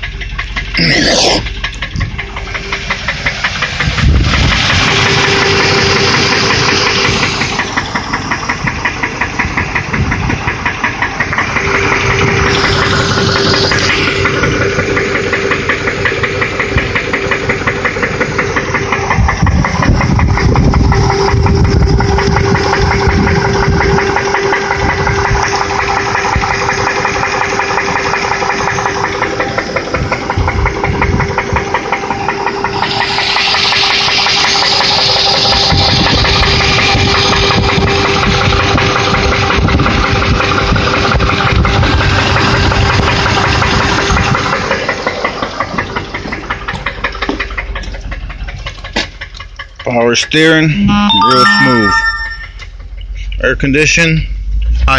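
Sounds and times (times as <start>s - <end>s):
engine knocking tick: 0.0s - 50.8s, 52.5s - 54.9s
engine whine: 0.0s - 54.9s.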